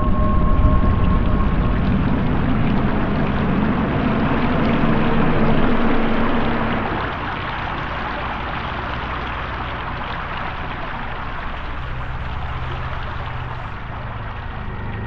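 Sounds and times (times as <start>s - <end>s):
faint low hum: 0.0s - 15.0s
pouring streaming water: 0.0s - 15.0s.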